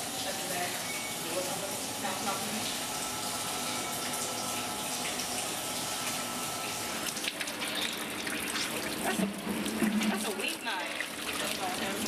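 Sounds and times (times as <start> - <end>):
water spraying on stainless steel: 0.0 - 12.0.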